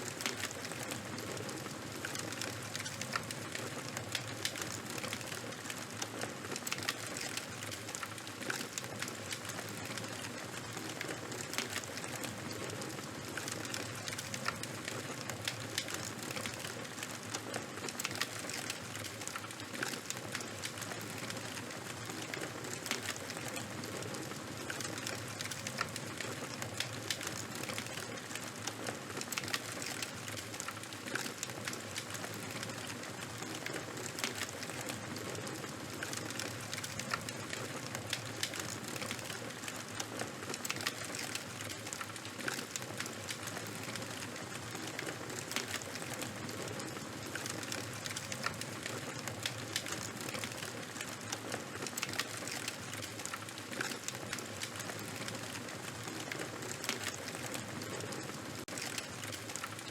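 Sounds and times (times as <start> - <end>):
fire popping and snapping: 0.0 - 59.9.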